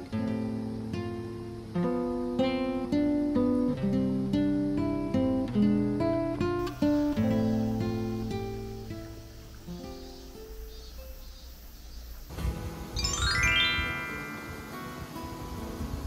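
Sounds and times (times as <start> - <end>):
acoustic guitar picking melody: 0.0 - 11.6, 12.2 - 16.0.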